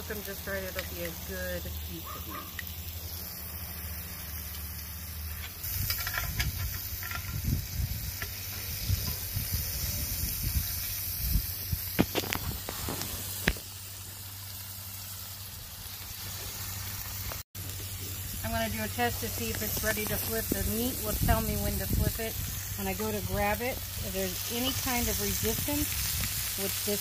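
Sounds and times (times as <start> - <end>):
steaks sizzling in a skillet: 0.0 - 27.0.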